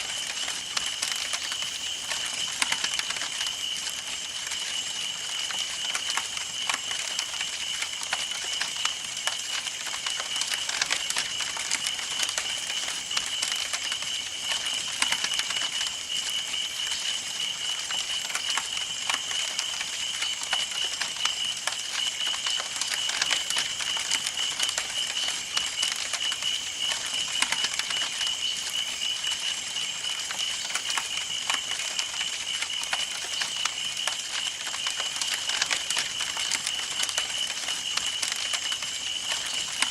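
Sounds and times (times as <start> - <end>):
wood crackling and popping: 0.0 - 39.9.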